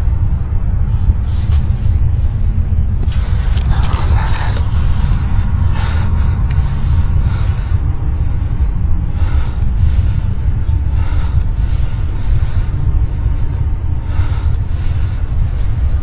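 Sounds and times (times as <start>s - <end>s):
deep rumble: 0.0s - 16.0s.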